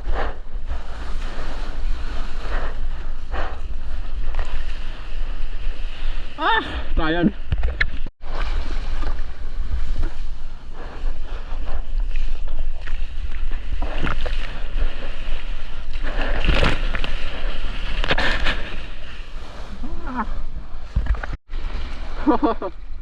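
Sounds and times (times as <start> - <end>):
water splashing and sloshing: 0.0 - 23.0
wind rumbling on microphone: 0.0 - 23.0.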